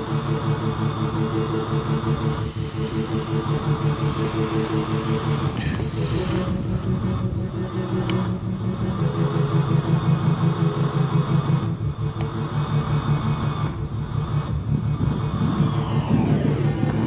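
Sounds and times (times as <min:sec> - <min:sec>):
music with low sustained notes: 0:00.0 - 0:17.0.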